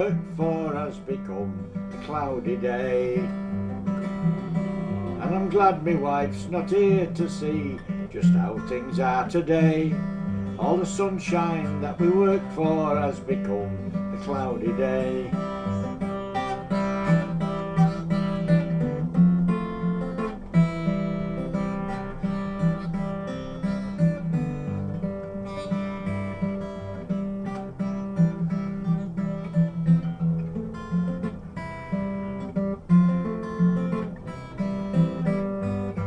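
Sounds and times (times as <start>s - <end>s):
acoustic guitar strummed and plucked: 0.0s - 36.0s.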